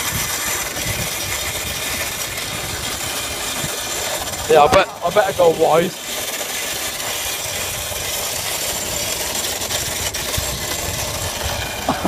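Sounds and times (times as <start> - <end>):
bicycle coasting over rough track: 0.0 - 12.0.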